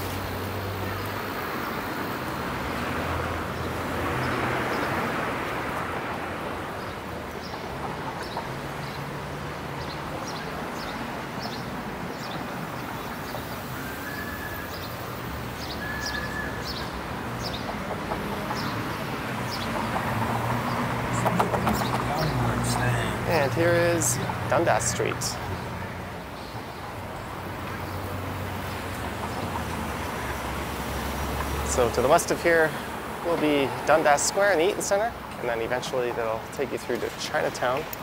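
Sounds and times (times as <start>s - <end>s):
street traffic passing: 0.0s - 38.0s.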